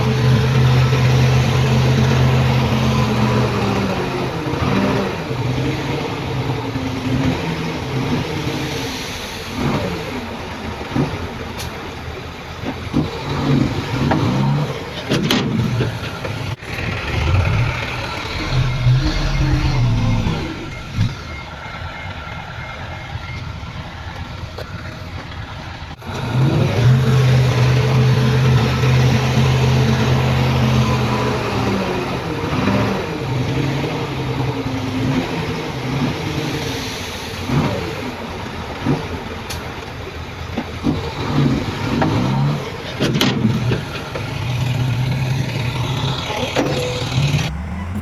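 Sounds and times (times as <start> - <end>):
heavy diesel engines revving: 0.0 - 22.4, 24.0 - 48.0.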